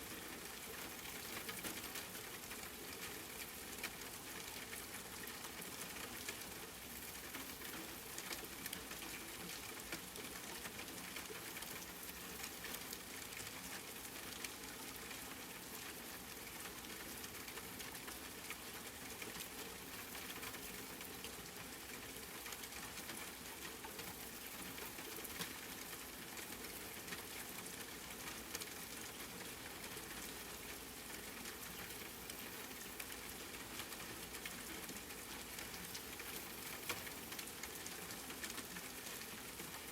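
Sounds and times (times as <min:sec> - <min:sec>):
raindrops pattering: 0:00.0 - 0:39.9
steady rain hissing: 0:00.0 - 0:39.9.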